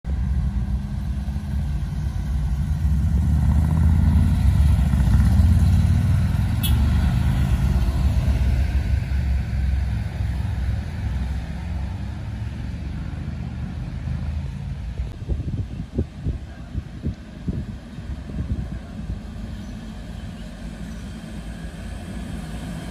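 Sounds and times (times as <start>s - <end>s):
heavy vehicles passing: 0.1s - 15.9s, 16.6s - 22.9s.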